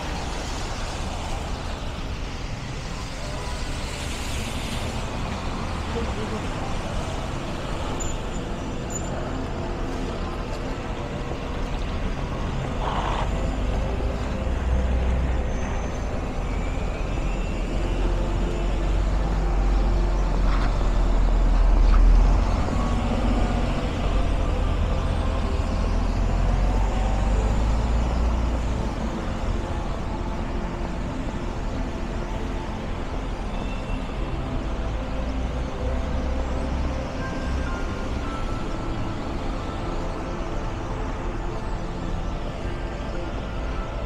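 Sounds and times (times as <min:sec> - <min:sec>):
traffic on wet road: 0:00.0 - 0:44.0.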